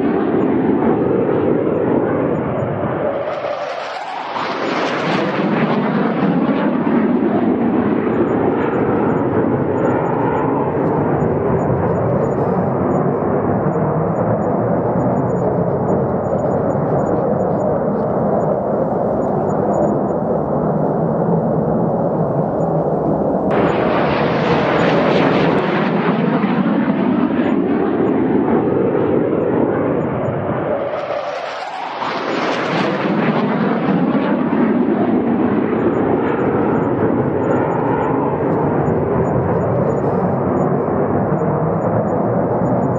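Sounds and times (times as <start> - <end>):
fighter jet passing: 0.0 - 42.9.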